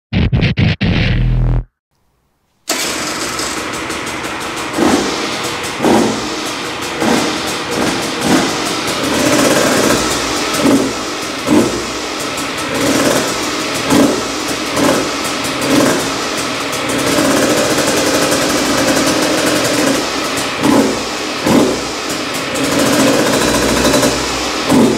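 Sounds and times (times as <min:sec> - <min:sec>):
two-stroke engine idling with blips: 0:02.7 - 0:24.9.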